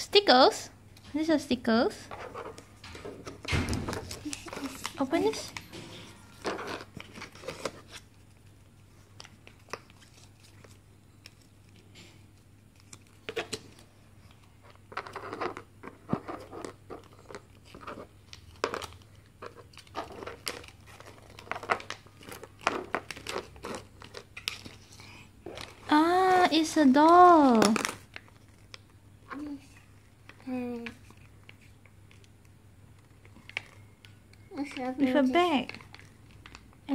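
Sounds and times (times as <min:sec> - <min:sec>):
plastic wrapper crinkling: 0:03.8 - 0:11.9, 0:12.7 - 0:29.0, 0:29.7 - 0:36.9.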